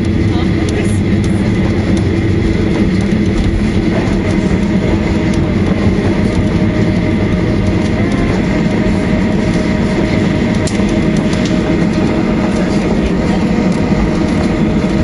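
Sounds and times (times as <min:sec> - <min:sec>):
low rumble of wheels and engines: 0:00.0 - 0:15.0.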